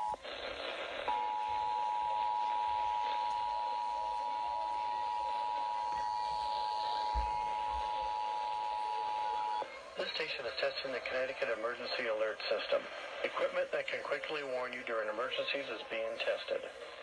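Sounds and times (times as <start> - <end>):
radio hiss: 0.0 - 17.0.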